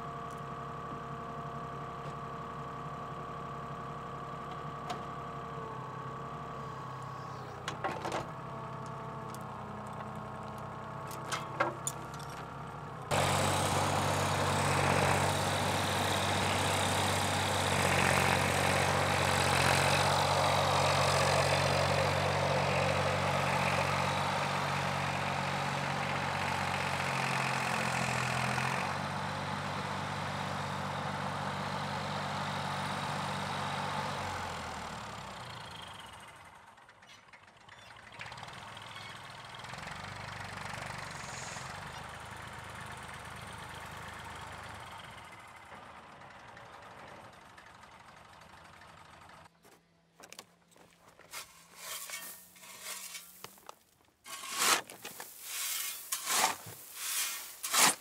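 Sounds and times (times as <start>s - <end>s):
excavator diesel engine running: 0.0s - 49.8s.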